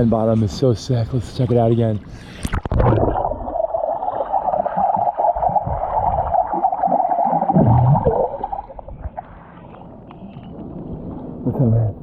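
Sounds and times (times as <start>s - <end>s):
muffled underwater water noise: 0.0s - 12.0s.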